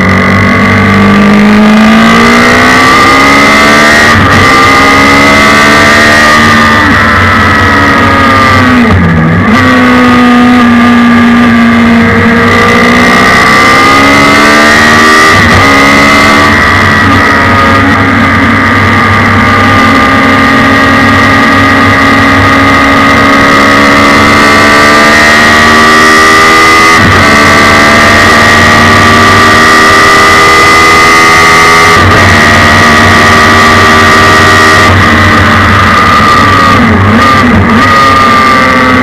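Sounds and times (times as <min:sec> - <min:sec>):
race car engine at high revs: 0:00.0 - 0:39.0.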